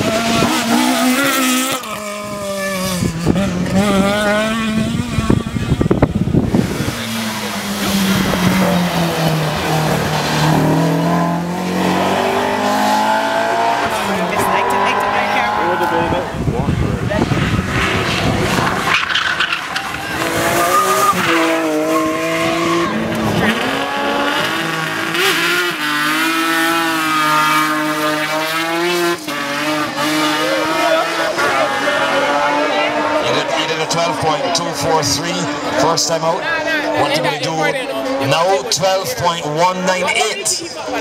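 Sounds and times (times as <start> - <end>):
race car engine accelerating: 0.0 - 38.7.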